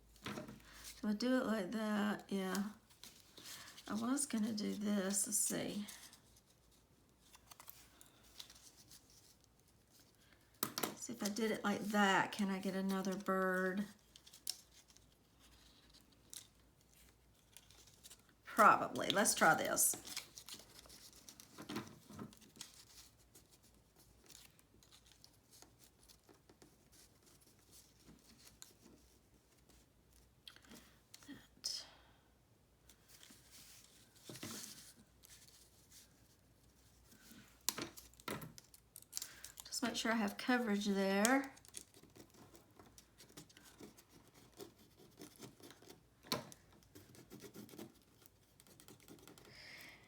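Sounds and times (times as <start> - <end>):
paper rustling and scratching: 2.5 - 10.4, 11.2 - 30.3, 32.9 - 49.5.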